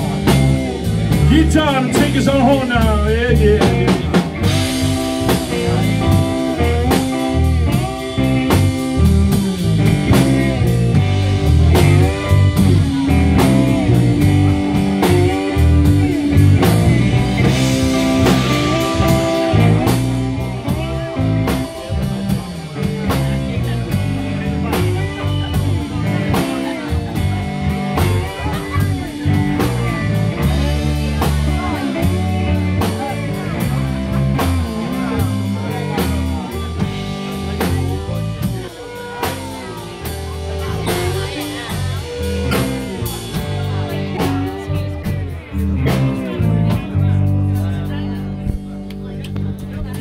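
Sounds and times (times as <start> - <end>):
blues harmonica lead: 0.0 - 50.0
drum kit: 0.0 - 50.0
electric guitar: 0.0 - 50.0.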